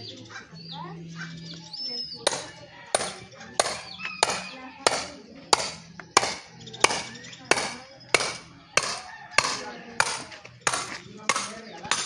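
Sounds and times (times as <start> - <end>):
hammer striking metal: 2.3 - 12.0.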